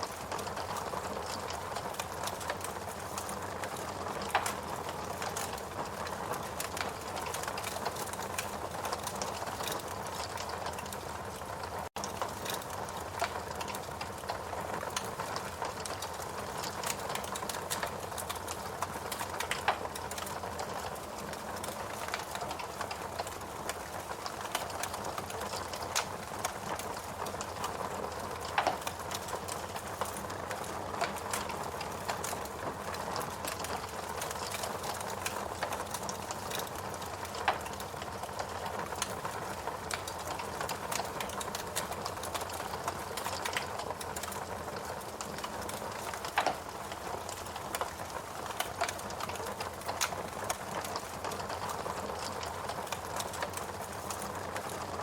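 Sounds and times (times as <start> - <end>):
fire popping: 0.0 - 55.0
log fire crackling: 0.0 - 55.0.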